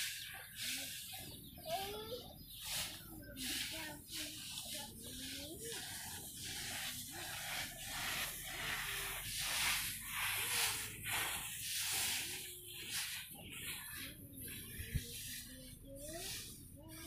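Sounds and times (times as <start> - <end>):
grains rustling under broom: 0.0 - 17.0.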